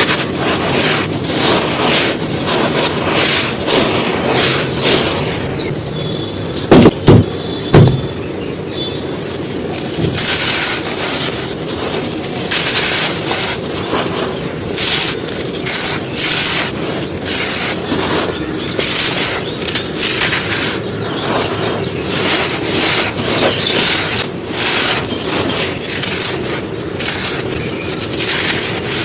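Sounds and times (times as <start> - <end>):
sand shapes crunching: 0.0 - 5.8, 6.5 - 29.0.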